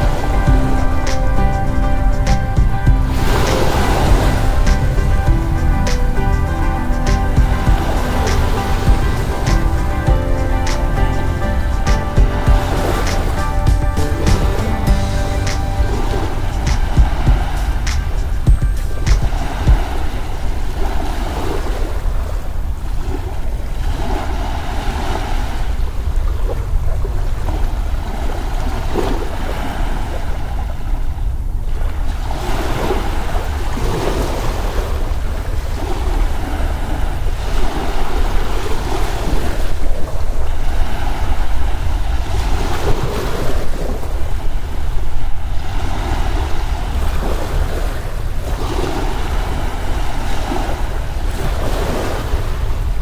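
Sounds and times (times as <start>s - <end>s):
low wind rumble: 0.0s - 53.0s
ocean waves washing in: 0.0s - 53.0s.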